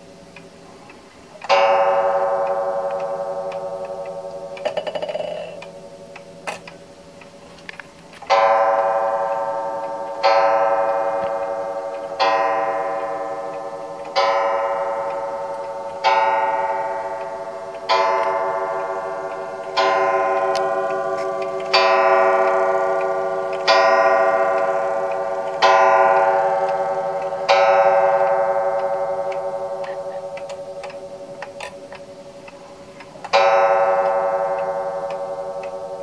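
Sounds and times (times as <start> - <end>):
clock striking on coiled gong: 0.0 - 36.0
faint clock ticking: 0.0 - 36.0.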